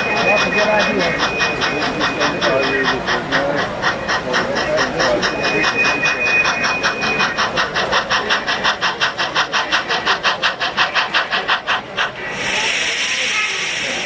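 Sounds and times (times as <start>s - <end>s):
model steam locomotive chuffing: 0.0s - 14.0s
steam hissing: 0.0s - 14.0s.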